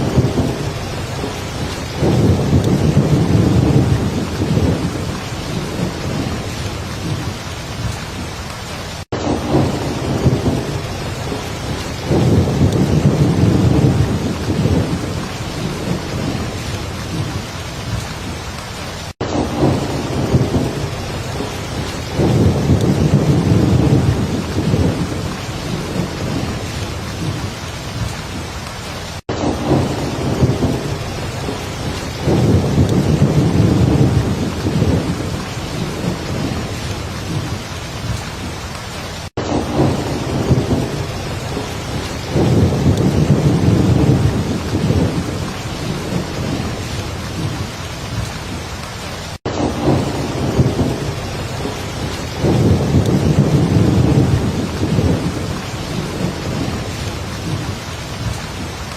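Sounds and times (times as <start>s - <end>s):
rolling thunder: 0.0s - 18.4s, 19.2s - 28.2s, 29.3s - 58.9s
heavy rain: 0.0s - 58.9s.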